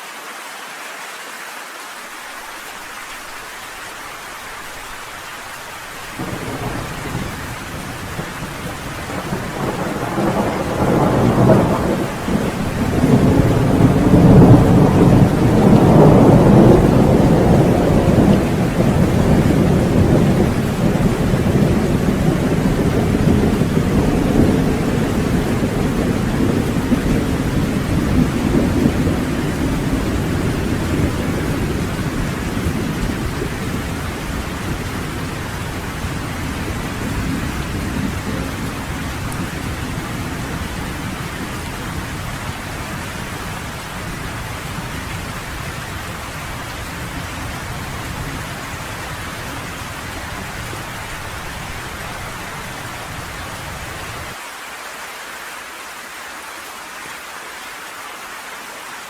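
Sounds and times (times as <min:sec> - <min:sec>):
steady rain: 0:00.0 - 0:59.0
thunder rolling: 0:06.1 - 0:54.4.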